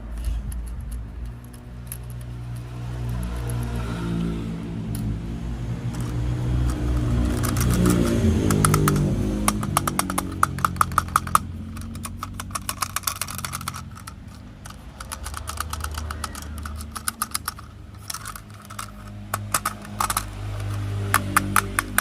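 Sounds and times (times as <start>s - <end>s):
toy train clicking and clattering: 0.0s - 22.0s.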